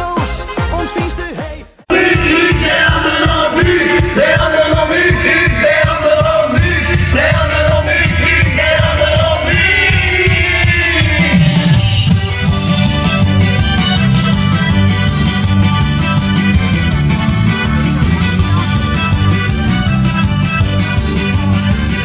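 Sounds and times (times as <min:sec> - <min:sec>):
carnival parade music with singing: 0:00.0 - 0:22.0.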